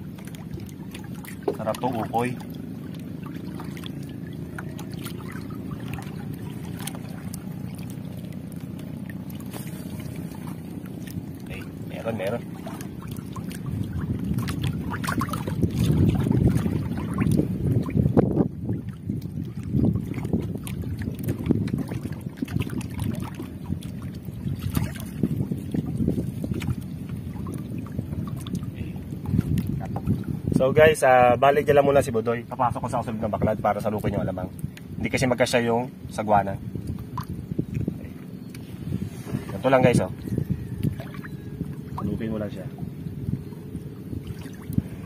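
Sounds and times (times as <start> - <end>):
small splashes: 0.0 - 30.4, 36.6 - 45.0
steady low rumble: 0.0 - 45.0
water lapping against boat hull: 0.0 - 45.0.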